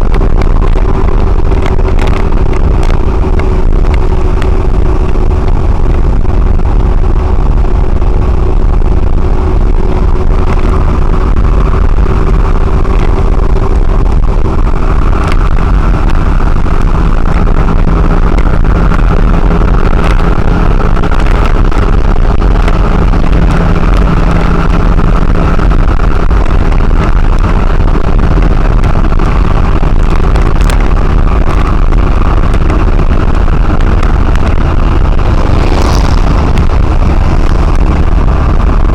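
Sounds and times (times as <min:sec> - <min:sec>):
lorry engine and road noise: 0:00.0 - 0:38.9.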